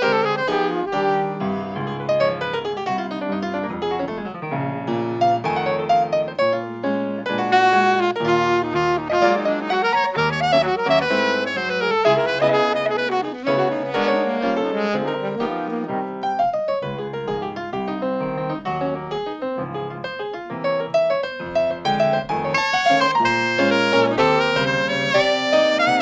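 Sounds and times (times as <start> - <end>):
alto saxophone jazz melody: 0.0 - 26.0
grand piano accompaniment: 0.0 - 26.0.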